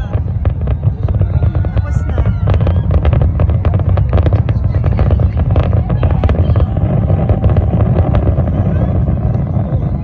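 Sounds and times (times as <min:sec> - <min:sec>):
fireworks crackling: 0:00.0 - 0:10.0
low rumble: 0:00.0 - 0:10.0.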